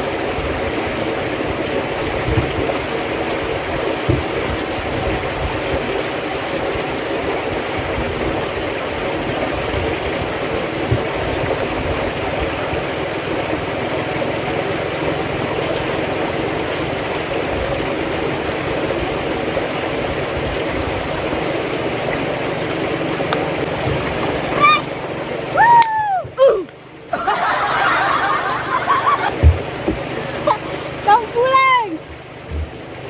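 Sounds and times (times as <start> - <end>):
steady rushing water-like noise: 0.0 - 33.0.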